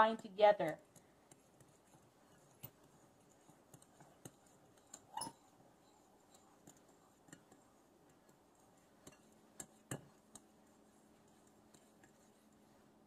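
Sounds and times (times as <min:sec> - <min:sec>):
fingers mixing in glass bowl: 0:00.0 - 0:13.0.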